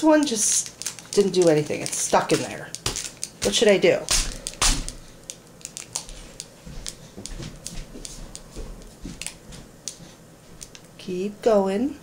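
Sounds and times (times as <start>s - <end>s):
foil packet crinkling and ticking: 0.0s - 10.0s.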